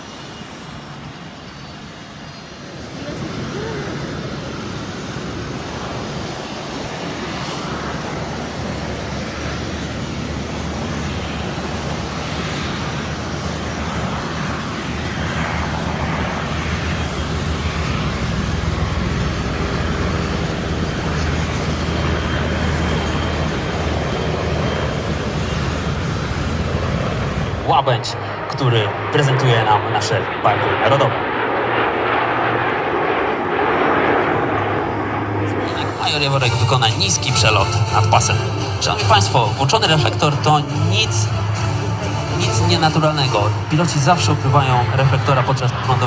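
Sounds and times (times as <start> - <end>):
airplane engine in flight: 0.0 - 46.0.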